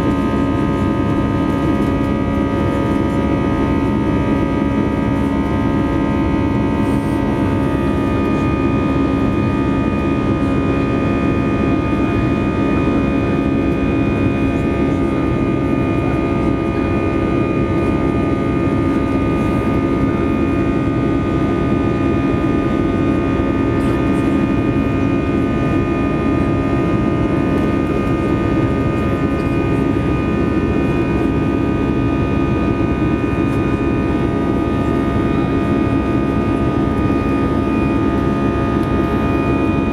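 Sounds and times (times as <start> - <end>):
constant humming tones: 0.0 - 39.9
jet engine cabin rumble: 0.0 - 39.9.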